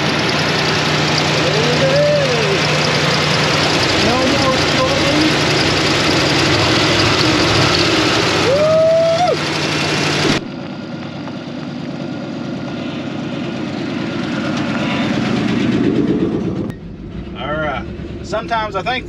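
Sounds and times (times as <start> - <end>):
engine idling: 0.0 - 19.0
truck engine approaching: 0.0 - 19.0.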